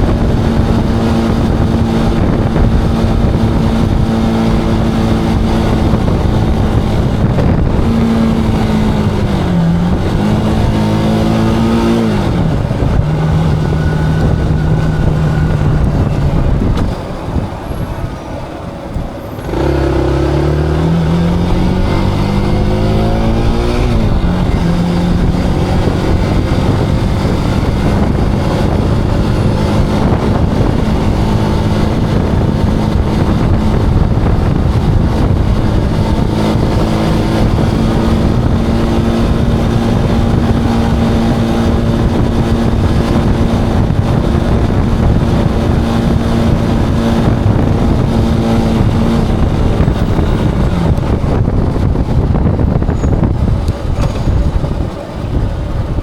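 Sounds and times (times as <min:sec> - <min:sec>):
motorcycle engine revving: 0:00.0 - 0:17.6, 0:19.2 - 0:56.0.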